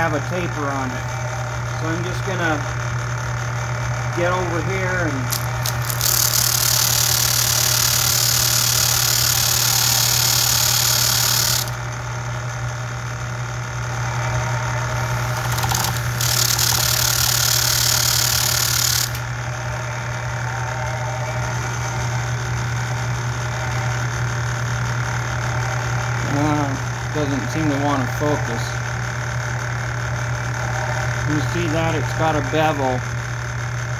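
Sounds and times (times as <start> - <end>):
sanding drum motor hum: 0.0 - 12.9, 13.5 - 28.7.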